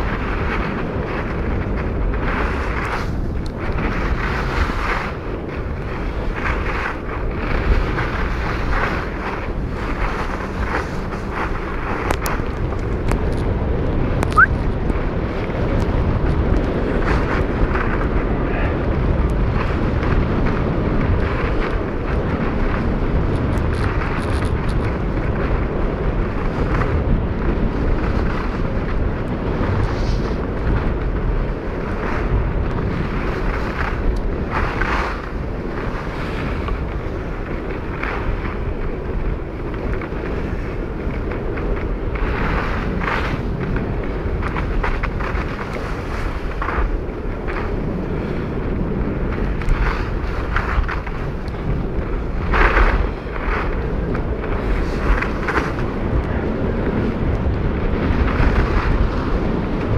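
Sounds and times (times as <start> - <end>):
skis sliding on snow: 0.0 - 59.9
wind on microphone: 0.0 - 59.9.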